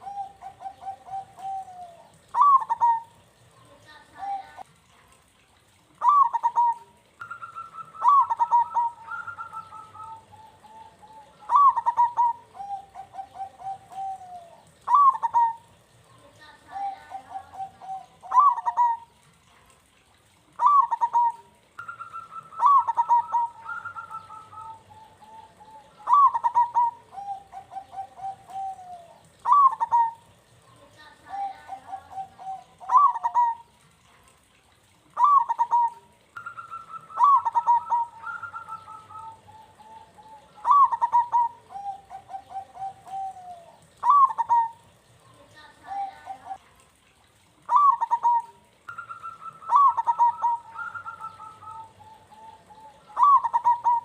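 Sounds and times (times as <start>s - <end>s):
dove cooing: 0.0s - 4.6s, 5.8s - 34.1s, 34.8s - 54.0s.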